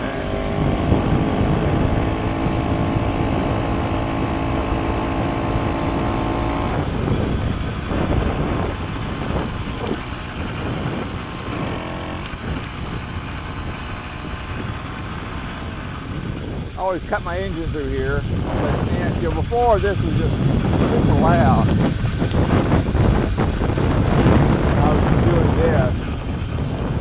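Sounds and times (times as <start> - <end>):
bicycle rolling noise: 0.0 - 27.0
small motorbike engine running: 0.0 - 27.0
wind buffeting microphone: 0.0 - 27.0.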